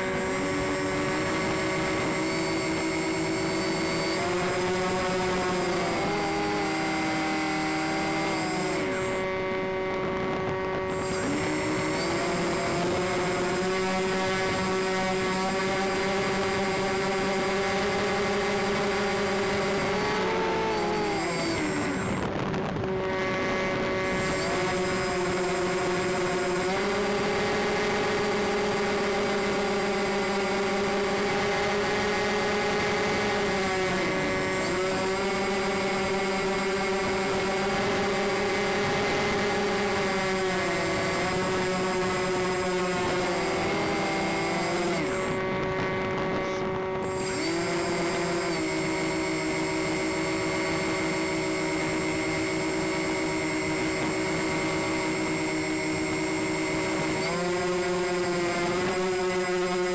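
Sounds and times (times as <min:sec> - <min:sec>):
model aircraft engine drone: 0:00.0 - 0:59.9.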